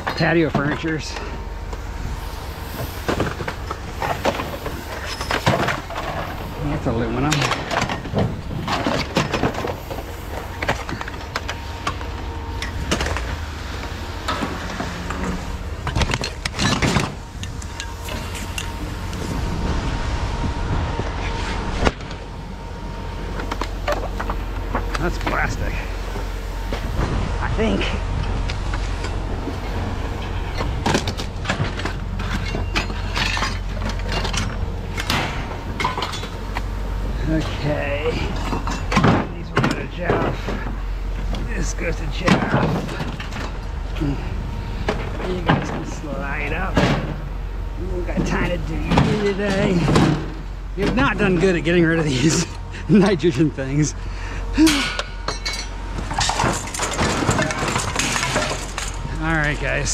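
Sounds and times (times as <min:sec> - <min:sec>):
scrap metal clanking: 0:00.0 - 0:19.4, 0:27.8 - 0:47.3, 0:48.0 - 0:59.9
steady low rumble: 0:00.0 - 0:59.9.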